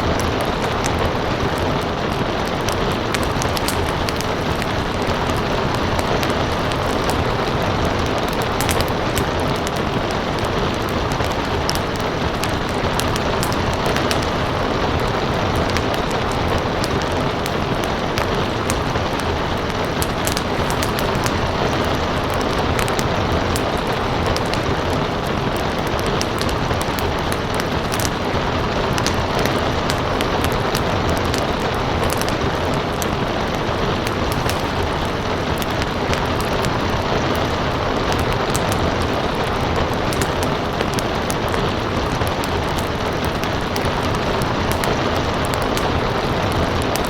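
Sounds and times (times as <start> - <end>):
steady rain falling: 0.0 - 47.0
wood fire crackling: 0.0 - 47.0.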